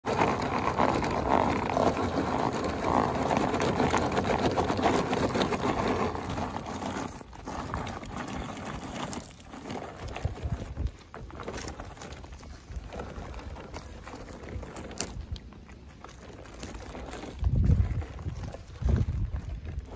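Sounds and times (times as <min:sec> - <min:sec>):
toy truck tyres crunching gravel: 0:00.0 - 0:19.9.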